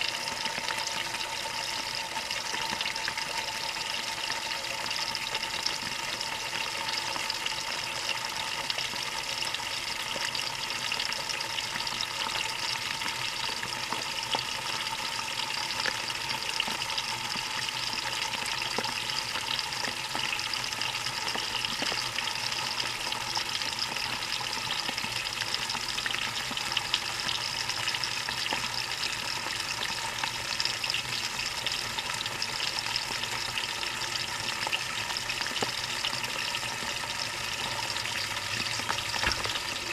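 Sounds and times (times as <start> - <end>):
water rushing in washing machine: 0.0 - 39.9.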